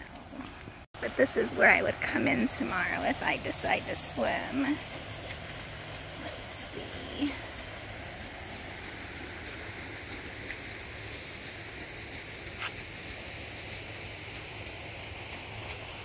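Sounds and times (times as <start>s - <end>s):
flowing spring water: 0.0s - 16.0s.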